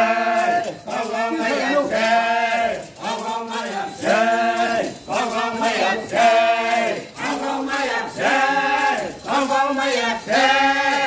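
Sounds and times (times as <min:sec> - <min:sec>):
group chanting: 0:00.0 - 0:11.0.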